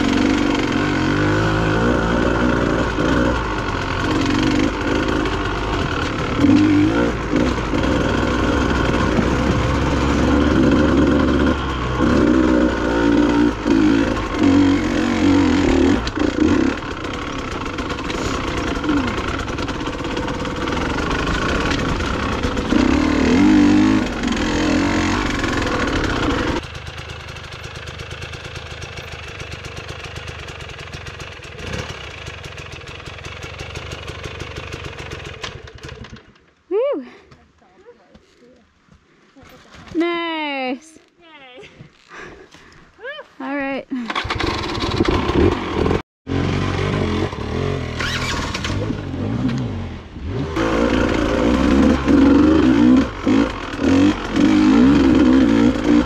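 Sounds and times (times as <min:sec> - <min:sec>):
dirt bike engine revving: 0:00.0 - 0:36.1, 0:43.9 - 0:56.0.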